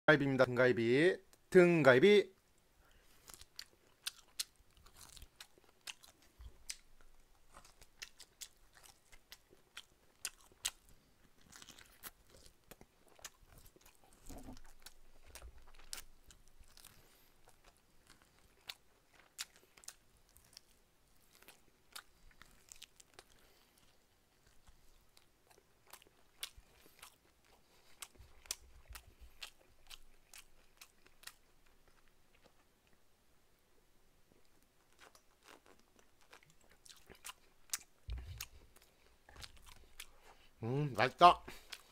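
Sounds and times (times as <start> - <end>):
mouth chewing clicks and smacks: 3.2 - 32.7, 34.4 - 40.4.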